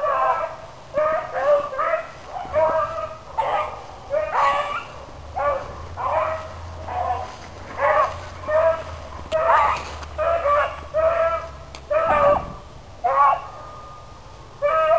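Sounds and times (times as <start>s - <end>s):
hounds baying: 0.0s - 14.0s, 14.6s - 14.9s.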